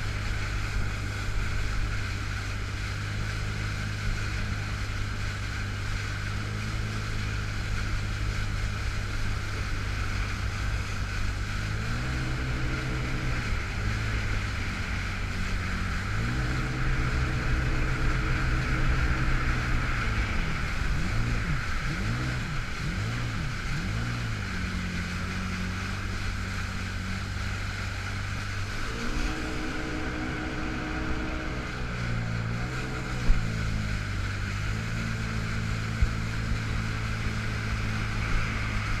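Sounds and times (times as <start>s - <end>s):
personal watercraft engine running: 0.0s - 39.0s
water and wind rushing: 0.0s - 39.0s.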